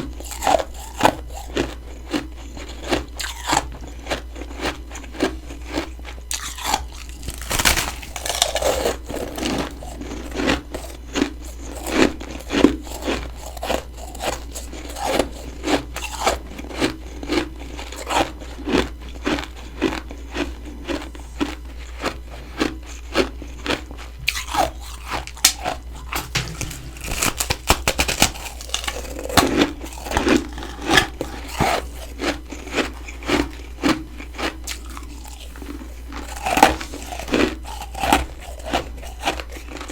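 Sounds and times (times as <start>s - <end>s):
frost being chewed crunching: 0.0s - 39.9s.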